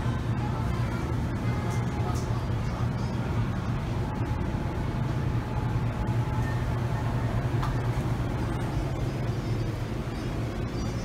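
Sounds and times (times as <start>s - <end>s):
indistinct background noise: 0.0s - 11.0s
steady low hum: 0.0s - 11.0s.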